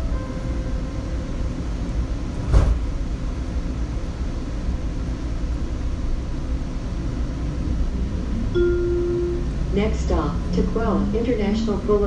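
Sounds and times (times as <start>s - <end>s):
light rail car rumbling: 0.0s - 12.0s.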